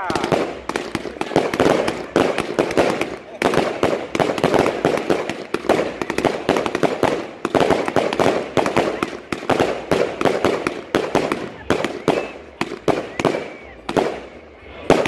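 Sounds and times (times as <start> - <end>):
firework cake firing rapidly: 0.0 - 15.0.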